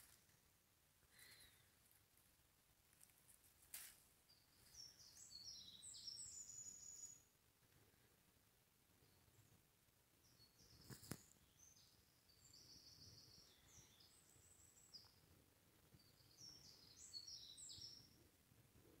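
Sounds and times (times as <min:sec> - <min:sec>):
faint songbird chirping: 0:00.0 - 0:19.0.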